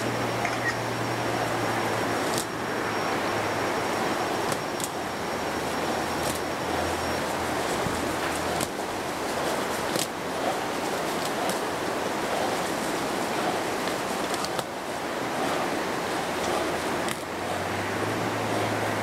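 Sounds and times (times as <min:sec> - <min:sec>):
steady rushing outdoor noise: 0:00.0 - 0:19.0.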